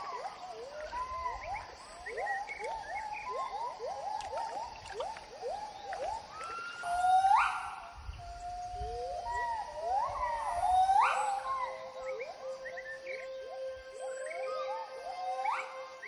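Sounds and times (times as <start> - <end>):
gibbon whooping calls: 0.0 - 16.0.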